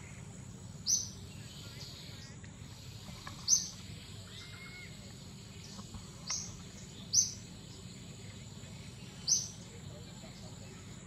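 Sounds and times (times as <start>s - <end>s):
low background hum: 0.0s - 11.0s
bird chirping: 0.8s - 11.0s.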